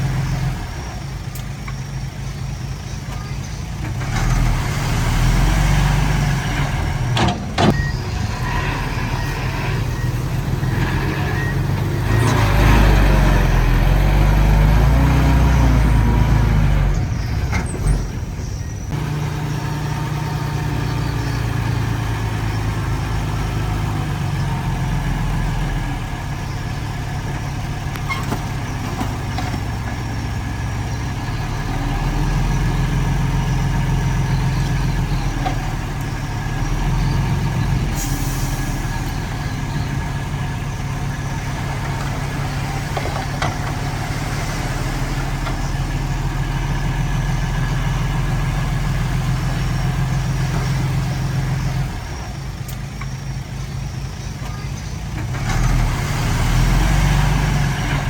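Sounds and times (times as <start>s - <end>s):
diesel engine of earthmover: 0.0s - 58.0s.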